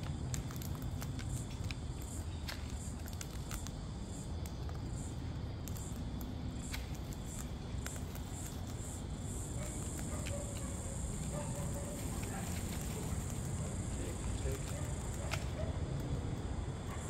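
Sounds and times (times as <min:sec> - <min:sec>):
beaks clicking and tapping: 0:00.0 - 0:16.4
low outdoor rumble: 0:00.0 - 0:17.0.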